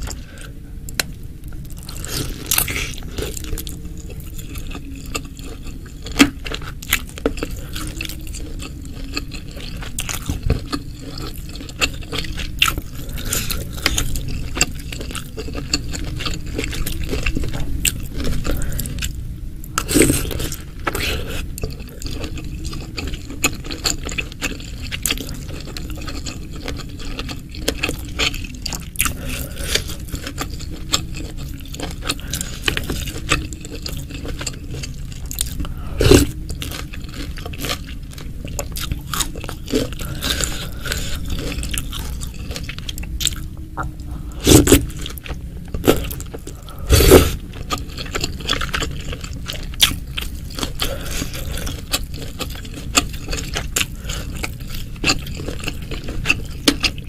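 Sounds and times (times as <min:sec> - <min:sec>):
close chewing and biting: 0:00.0 - 0:57.0.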